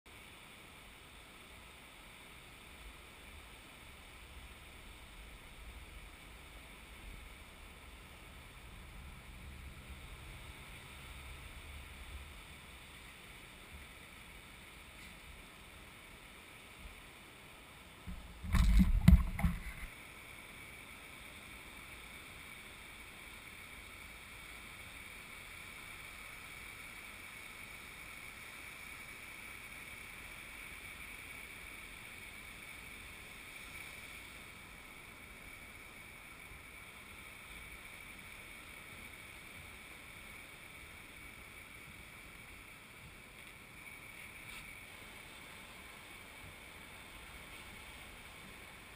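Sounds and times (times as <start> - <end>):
surf hiss: 0.1 - 48.9.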